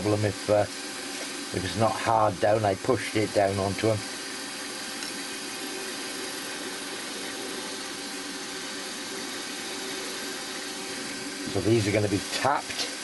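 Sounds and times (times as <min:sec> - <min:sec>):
milling machine drilling metal: 0:00.0 - 0:13.0.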